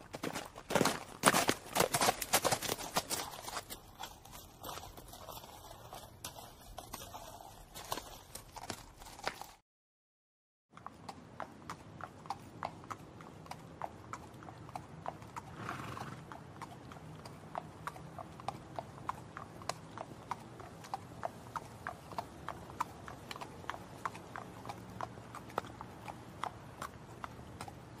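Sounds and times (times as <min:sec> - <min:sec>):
horse hooves galloping: 0:00.0 - 0:09.6, 0:10.8 - 0:28.0.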